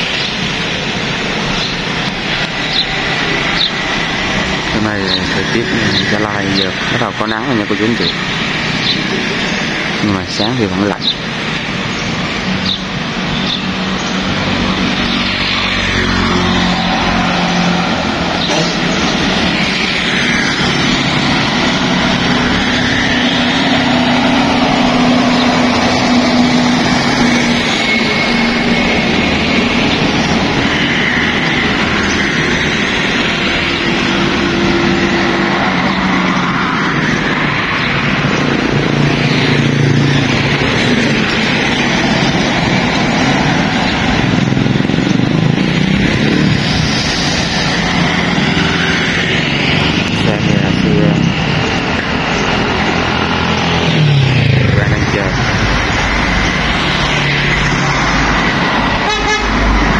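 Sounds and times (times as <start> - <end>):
highway traffic passing: 0.0 - 59.9.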